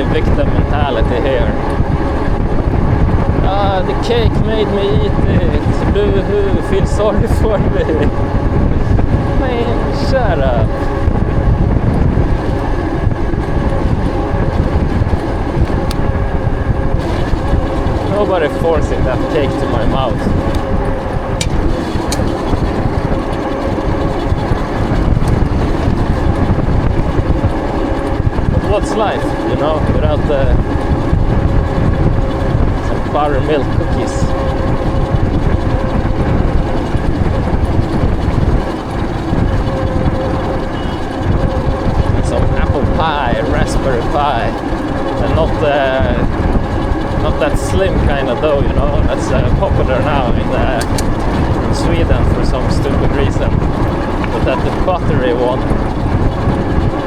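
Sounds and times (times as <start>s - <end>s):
faint steady whine: 0.0s - 57.0s
wind buffeting microphone: 0.0s - 57.0s.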